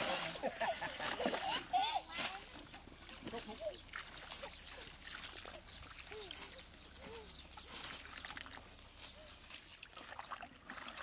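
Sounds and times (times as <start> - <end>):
water and mud splashing: 0.0 - 11.0.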